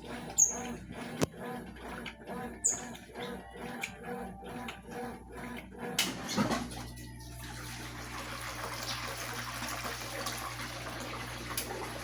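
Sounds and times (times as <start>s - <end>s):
water sloshing in washing machine: 0.0s - 12.0s.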